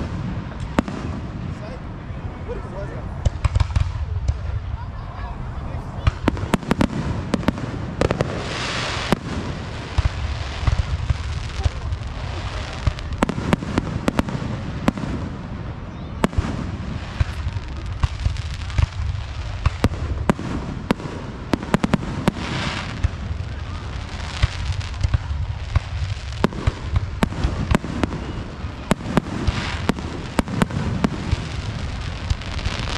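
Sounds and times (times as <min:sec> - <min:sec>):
firework bursts: 0:00.0 - 0:02.1, 0:03.1 - 0:05.0, 0:05.8 - 0:32.9
firework hissing and crackling: 0:00.0 - 0:05.0, 0:05.8 - 0:32.9.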